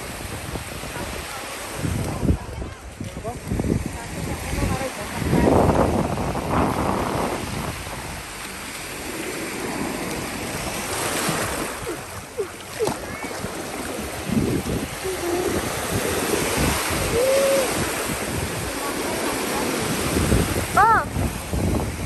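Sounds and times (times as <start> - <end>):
small waves breaking: 0.0 - 22.0
wind buffeting microphone: 0.0 - 22.0.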